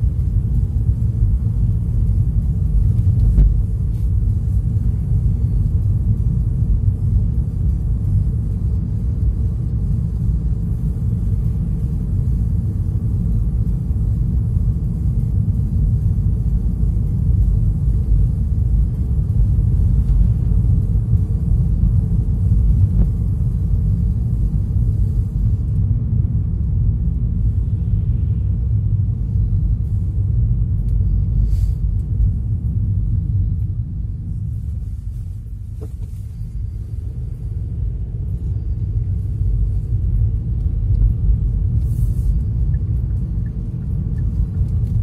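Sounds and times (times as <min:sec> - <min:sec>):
car driving on highway: 0:00.0 - 0:45.0.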